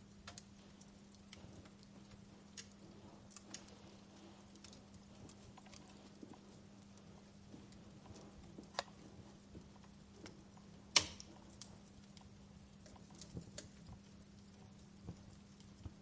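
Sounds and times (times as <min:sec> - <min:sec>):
faint steady hum: 0:00.0 - 0:16.0
wood fire crackling: 0:00.0 - 0:16.0.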